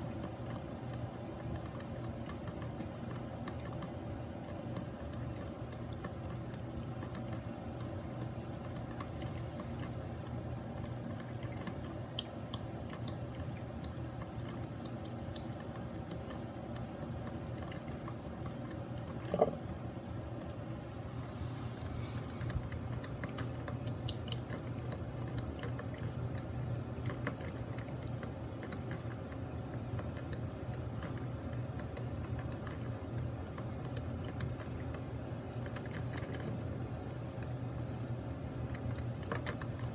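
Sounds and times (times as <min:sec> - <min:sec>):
coffee maker gurgle: 0:00.0 - 0:39.9
coffee maker humming: 0:00.0 - 0:39.9.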